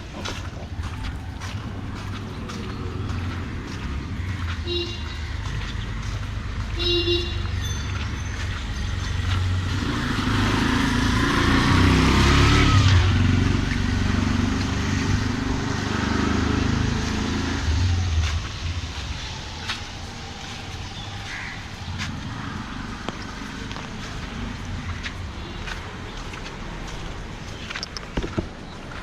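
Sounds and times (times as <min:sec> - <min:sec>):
vehicle passing on street: 0:00.0 - 0:29.0.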